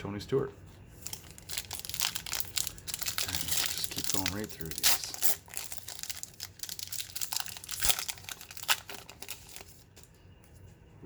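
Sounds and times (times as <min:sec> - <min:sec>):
foil wrapper crinkling: 0:00.9 - 0:10.2.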